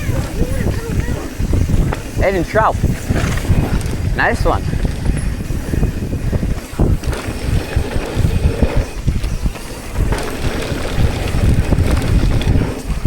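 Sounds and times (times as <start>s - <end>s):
bike rattle and tyre noise: 0.0s - 13.0s
wind buffeting microphone: 0.0s - 13.0s.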